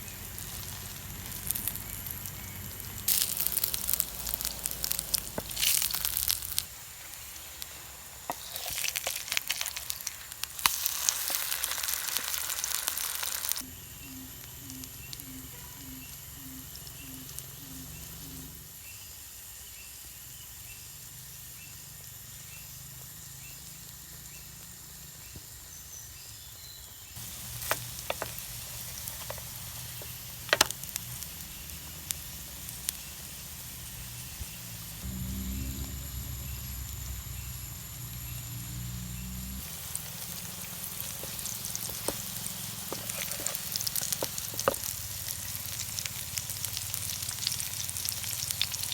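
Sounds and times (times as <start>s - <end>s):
food sizzling in a frying pan: 0.0s - 26.5s, 27.1s - 48.9s
insect chirring: 0.0s - 48.9s.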